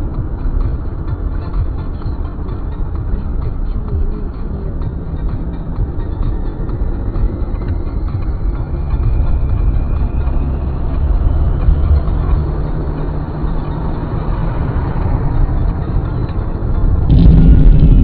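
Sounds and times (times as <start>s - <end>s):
road vehicle rumble: 0.0s - 18.0s.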